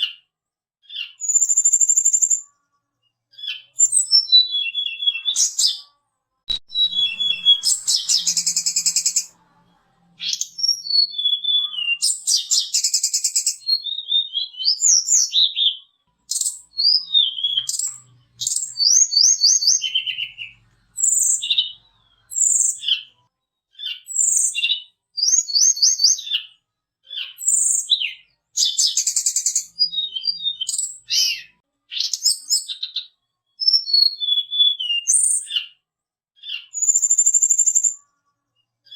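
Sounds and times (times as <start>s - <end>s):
songbird singing: 0.9s - 23.2s, 23.8s - 35.8s, 36.4s - 38.0s.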